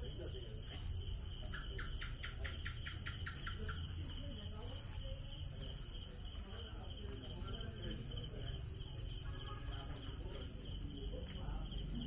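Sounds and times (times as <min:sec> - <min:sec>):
crickets chirping: 0:00.0 - 0:12.0
faint voices: 0:00.0 - 0:12.0.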